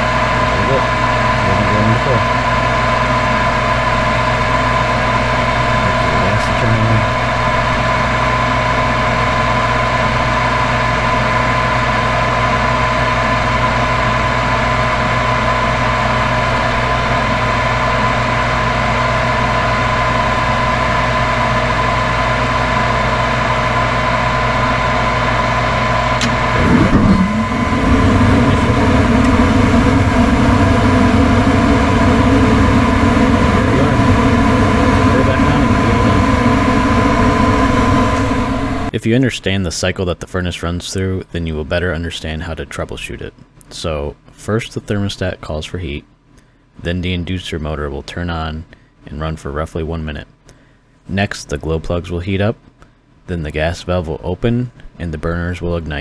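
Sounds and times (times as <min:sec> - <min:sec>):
furnace inducer motor hum: 0:00.0 - 0:56.0
gas burners rumbling: 0:00.0 - 0:56.0.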